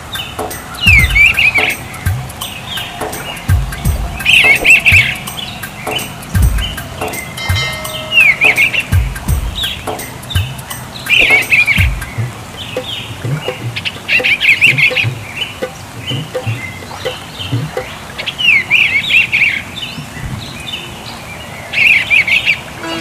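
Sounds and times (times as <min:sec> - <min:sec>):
bird singing warbled phrases: 0:00.0 - 0:23.0.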